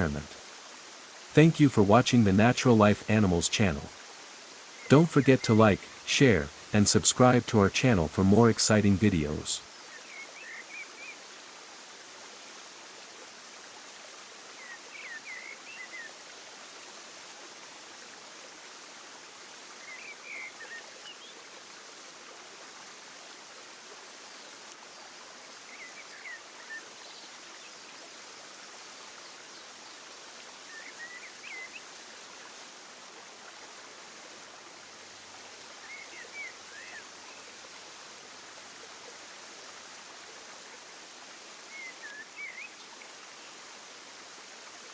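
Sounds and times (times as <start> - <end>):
stream rushing: 0.0 - 44.9.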